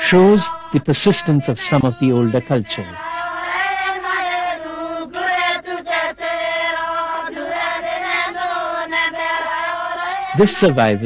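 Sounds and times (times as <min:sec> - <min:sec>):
group singing chant-like notes: 0:00.0 - 0:11.0.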